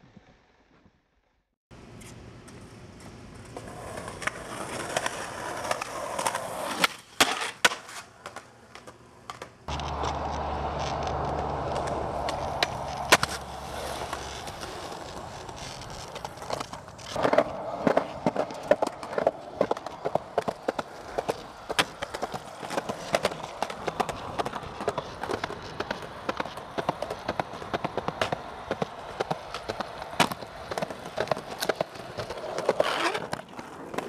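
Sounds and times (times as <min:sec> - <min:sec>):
skateboard rolling on concrete: 0:00.0 - 0:34.0.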